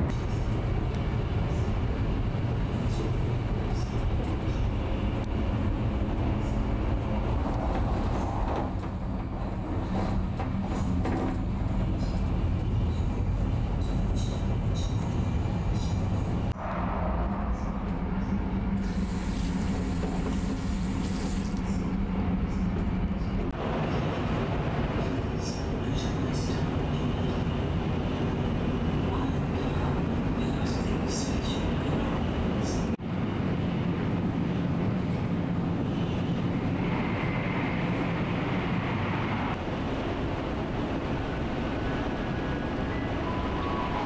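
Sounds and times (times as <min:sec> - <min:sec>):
train rumbling at speed: 0:00.0 - 0:44.0.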